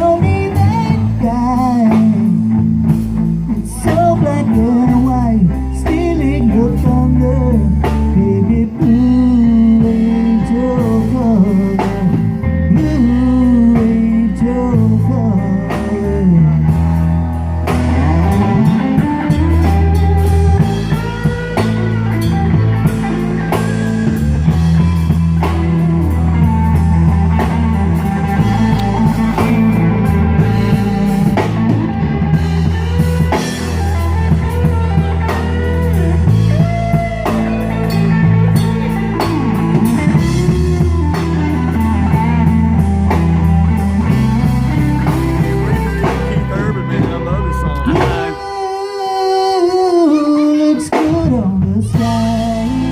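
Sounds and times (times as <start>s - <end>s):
bass guitar: 0.0s - 52.9s
drum kit: 0.0s - 52.9s
lead guitar melody: 0.0s - 52.9s.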